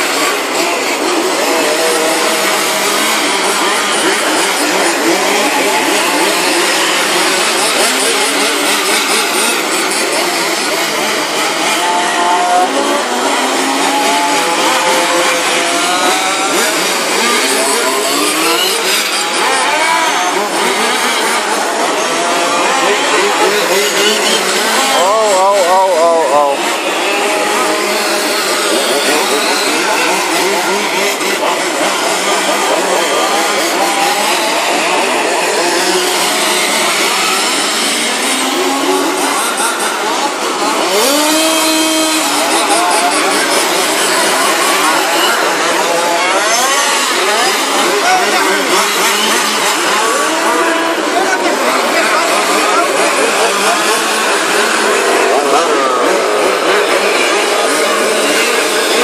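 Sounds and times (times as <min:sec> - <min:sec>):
small racing engines revving: 0:00.0 - 0:59.0.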